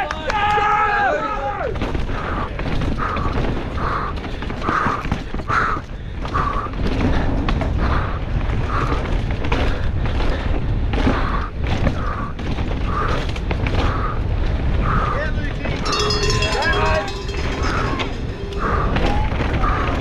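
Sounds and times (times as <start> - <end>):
wind rumble on microphone: 0.0 - 20.0
bike knocking and rattling over rocks: 1.7 - 20.0.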